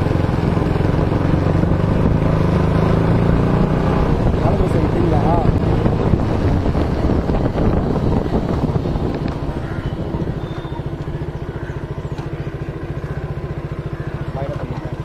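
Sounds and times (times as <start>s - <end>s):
motorcycle engine slowing and idling: 0.0s - 15.0s.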